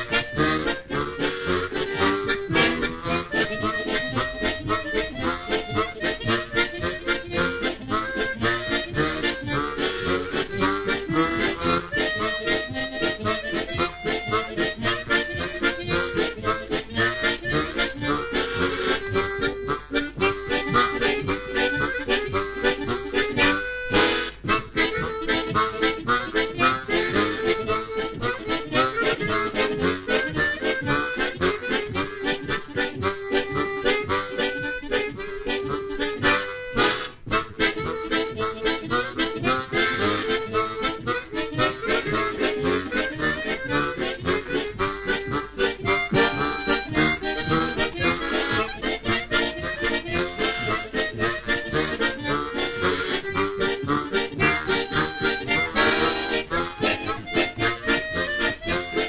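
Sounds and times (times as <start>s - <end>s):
harmonica trio playing: 0.0s - 59.0s.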